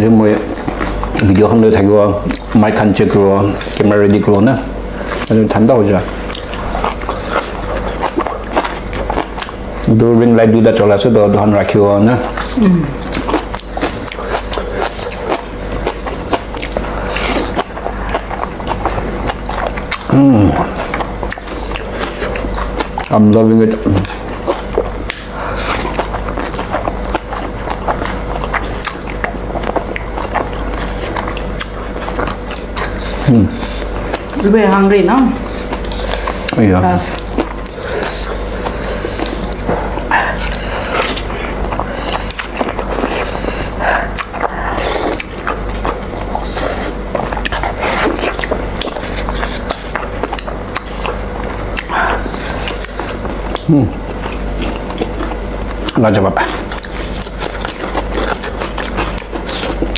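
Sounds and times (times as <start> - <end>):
person slurping and chewing noodles: 4.8 - 10.6, 11.5 - 59.9.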